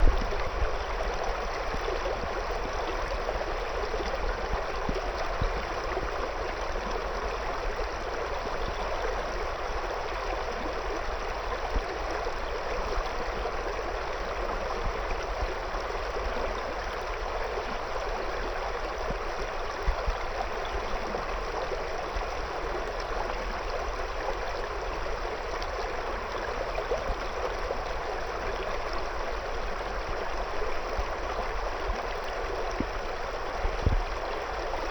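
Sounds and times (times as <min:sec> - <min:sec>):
river water babbling over stones: 0:00.0 - 0:34.9.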